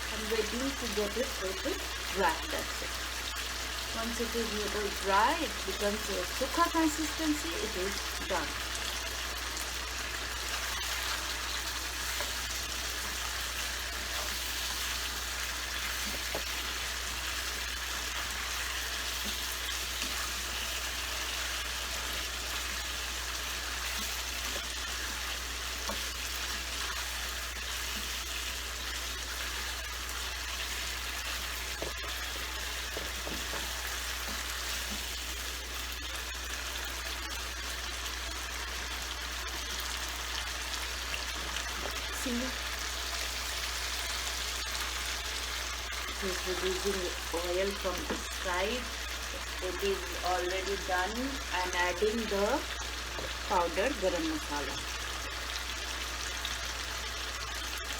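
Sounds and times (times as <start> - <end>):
chicken sizzling in a pan: 0.0 - 57.9.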